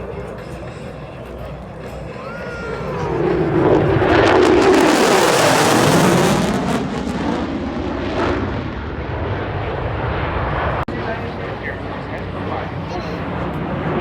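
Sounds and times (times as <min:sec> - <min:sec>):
fighter jet passing: 0:02.0 - 0:14.0.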